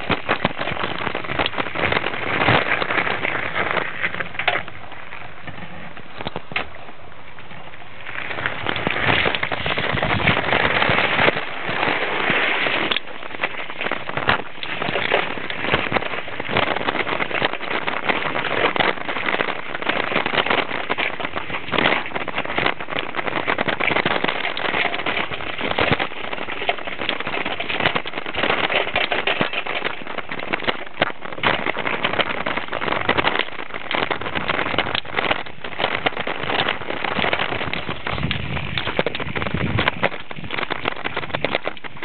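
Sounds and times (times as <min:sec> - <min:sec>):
bicycle rattling on dirt track: 0:00.0 - 0:42.0.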